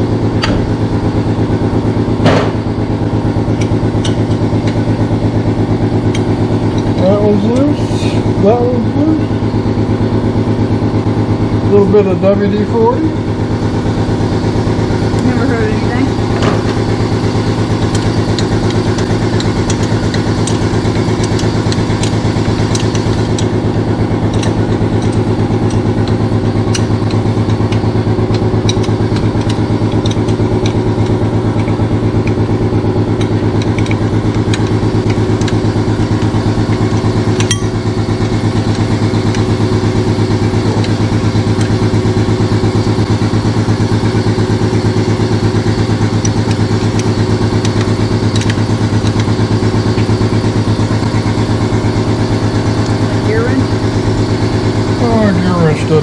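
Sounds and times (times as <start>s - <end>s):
air compressor running: 0.0s - 56.0s.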